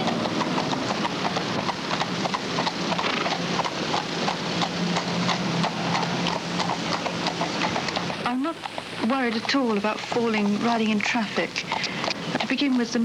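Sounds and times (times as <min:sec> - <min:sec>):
horse hooves clip-clopping on pavement: 0:00.0 - 0:13.0.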